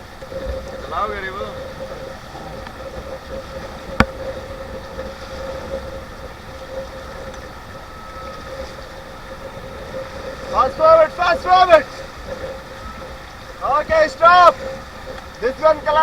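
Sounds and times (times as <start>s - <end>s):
faint steady tone: 0.0s - 16.0s
rushing river water: 0.0s - 16.0s
wind on the microphone: 0.0s - 16.0s.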